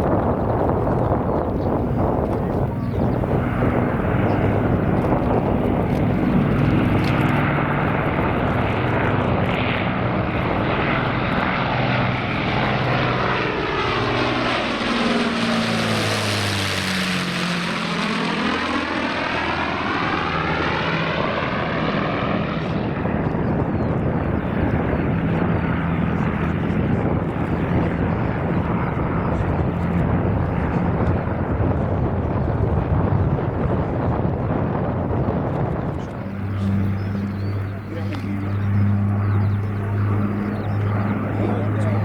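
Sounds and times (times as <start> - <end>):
propeller bomber flying by: 0.0 - 42.0.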